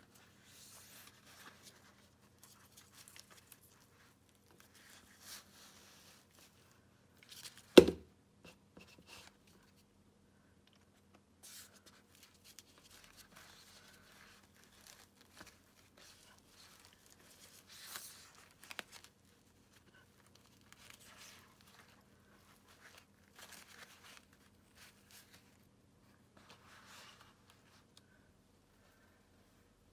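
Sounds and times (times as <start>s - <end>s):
rope rustling and rubbing: 0.0s - 6.8s, 11.4s - 29.8s.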